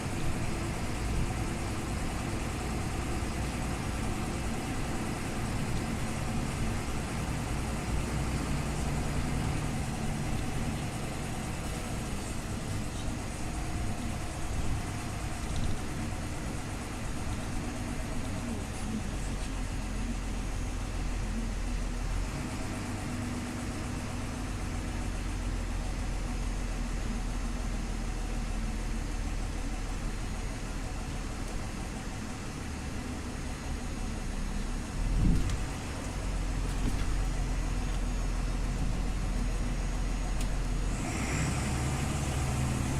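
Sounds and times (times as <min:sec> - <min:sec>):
bus diesel engine droning: 0:00.0 - 0:42.9
road and cabin noise: 0:00.0 - 0:42.9.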